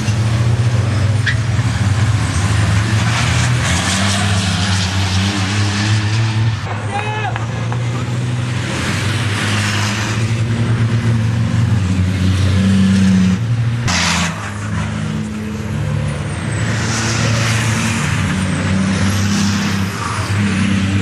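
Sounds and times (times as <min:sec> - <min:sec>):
truck engines running hard: 0:00.0 - 0:21.0.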